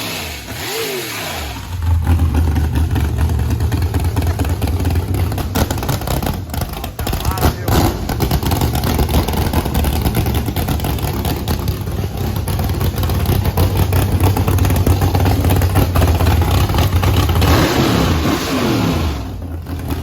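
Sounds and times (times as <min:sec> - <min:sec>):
engine rough idle: 0:00.0 - 0:20.0.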